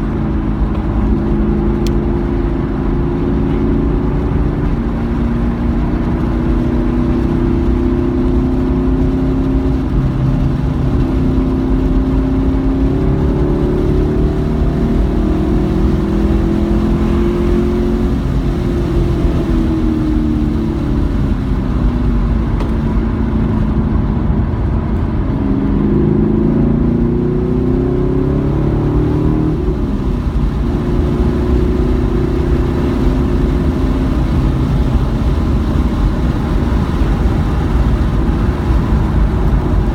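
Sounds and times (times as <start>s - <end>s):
car engine revving: 0.0s - 39.9s
low road rumble: 0.0s - 39.9s.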